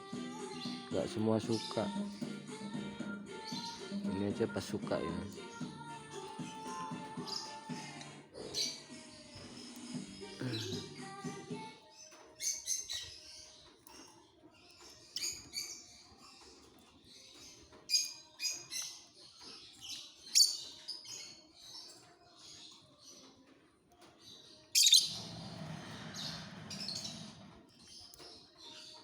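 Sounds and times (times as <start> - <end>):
lovebirds chirping: 0.0 - 29.0.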